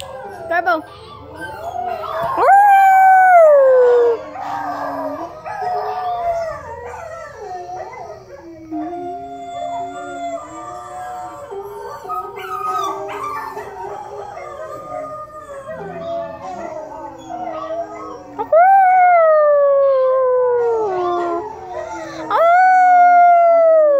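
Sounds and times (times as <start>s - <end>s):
dogs howling: 0.0s - 23.9s.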